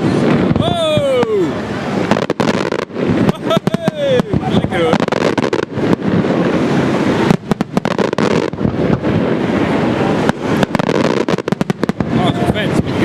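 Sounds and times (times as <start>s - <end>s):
fireworks crackling rumble: 0.0s - 13.0s
fireworks sharp bangs: 0.0s - 13.0s.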